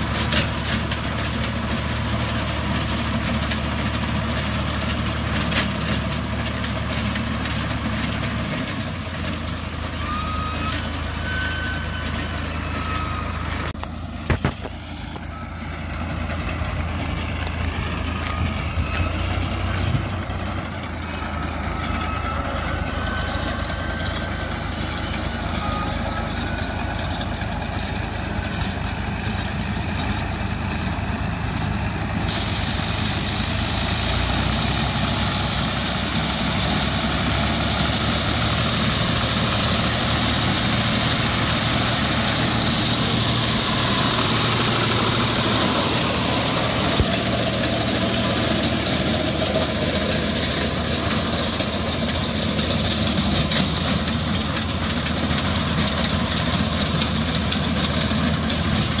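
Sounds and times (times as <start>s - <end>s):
reaper binder machinery running: 0.0s - 59.0s
tractor diesel engine running: 0.0s - 59.0s.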